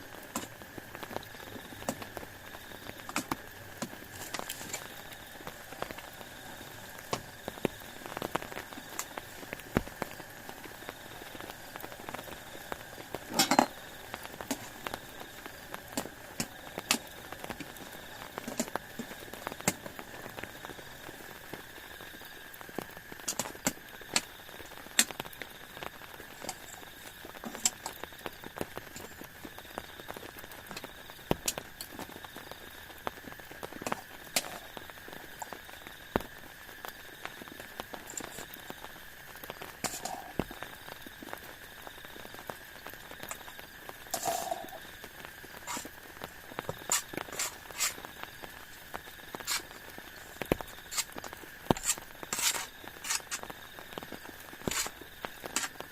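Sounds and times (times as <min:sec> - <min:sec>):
hiss of rain: 0:00.0 - 0:55.9
raindrops tapping: 0:00.0 - 0:55.9.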